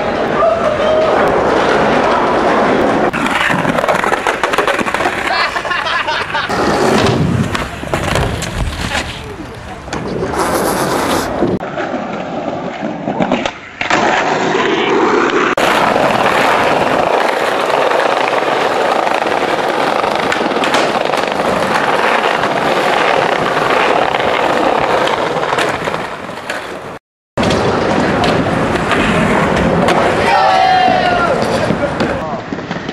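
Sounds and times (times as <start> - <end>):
skateboard wheels rolling on concrete: 0.0 - 32.9.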